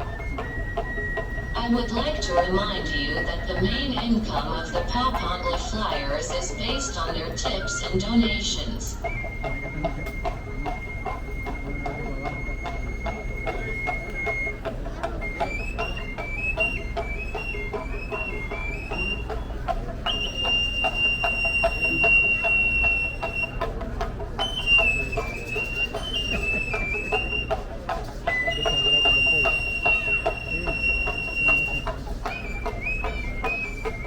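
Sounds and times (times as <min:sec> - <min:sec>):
high piping reed flute melody: 0:00.0 - 0:34.0
steady drum beat: 0:00.0 - 0:34.0.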